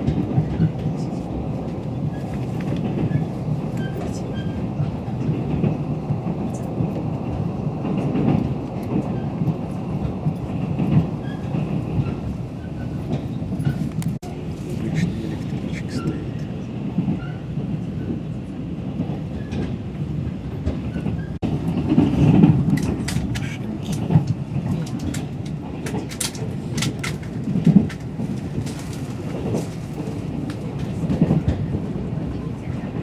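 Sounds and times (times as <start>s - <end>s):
train clacks and rattles: 0.0s - 33.0s
train rumbling on rails: 0.0s - 33.0s.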